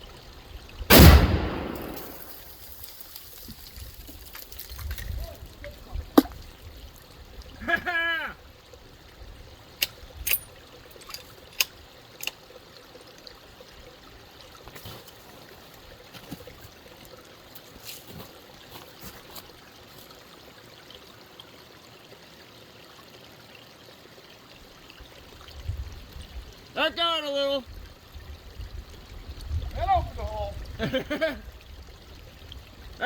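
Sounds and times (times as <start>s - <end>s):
water trickling and running: 0.0s - 0.9s, 1.6s - 33.0s.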